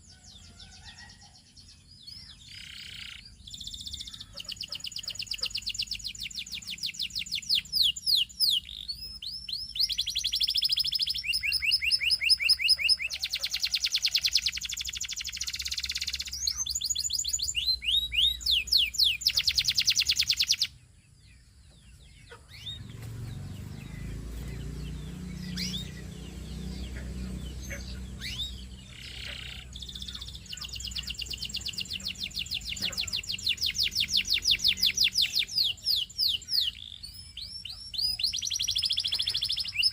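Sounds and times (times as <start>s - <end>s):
canary singing trills: 0.0s - 39.9s
faint chirps: 0.0s - 39.9s.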